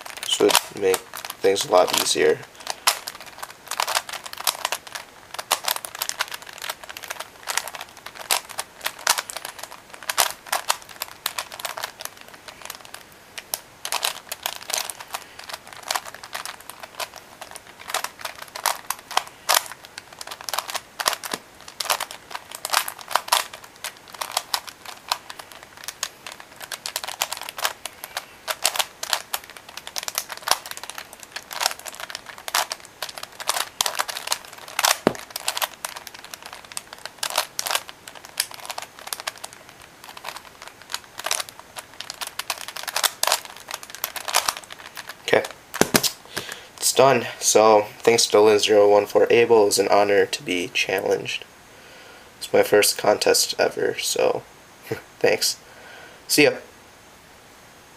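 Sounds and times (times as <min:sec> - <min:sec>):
puzzle cube plastic clicking: 0:00.1 - 0:46.6.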